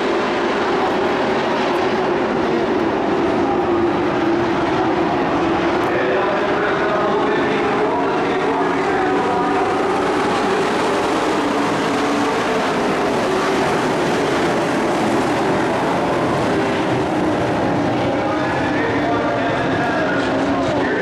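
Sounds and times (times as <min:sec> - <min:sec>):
race truck engines droning: 0:00.0 - 0:21.0.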